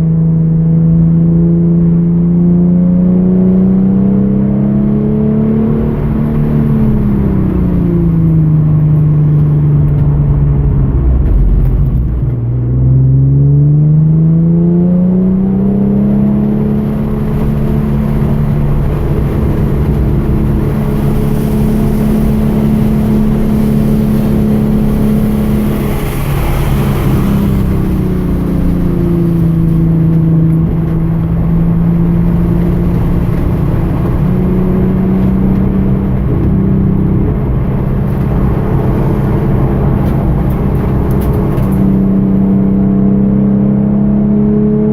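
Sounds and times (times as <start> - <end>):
car engine revving under load: 0.0 - 44.9.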